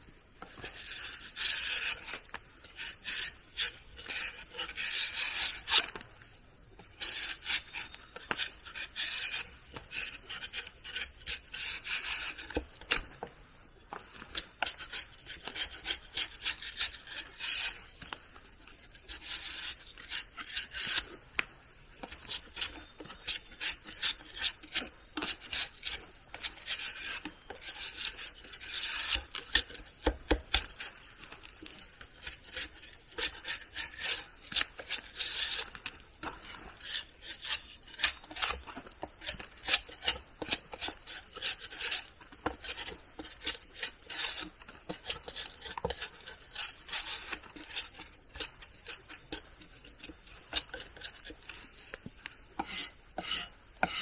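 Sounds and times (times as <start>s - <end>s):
hand tool scraping wood: 0.4s - 6.1s, 6.8s - 13.3s, 13.9s - 18.2s, 18.8s - 21.2s, 22.0s - 54.0s.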